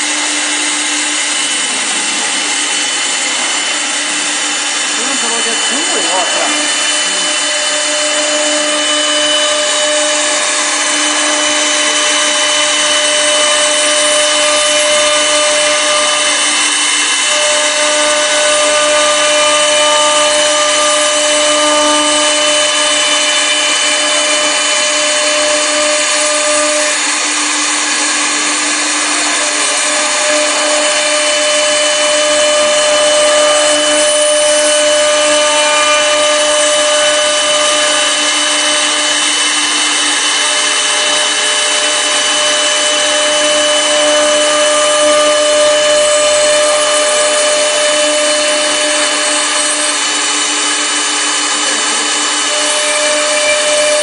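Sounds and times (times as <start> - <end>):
machine whine with held tones: 0.0 - 54.0
rough wood-cutting noise: 0.0 - 54.0.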